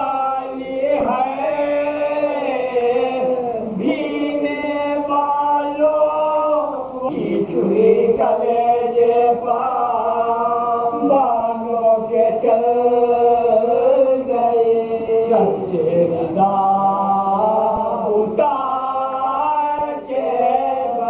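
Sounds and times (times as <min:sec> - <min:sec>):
lead reciter voice: 0:00.0 - 0:21.0
men chanting in unison: 0:00.0 - 0:21.0.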